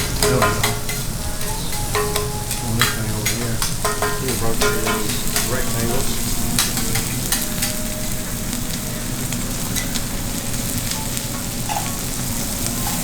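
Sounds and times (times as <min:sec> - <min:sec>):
beef sizzling on griddle: 0:00.0 - 0:13.0
metal utensils clicking on griddle: 0:00.0 - 0:13.0.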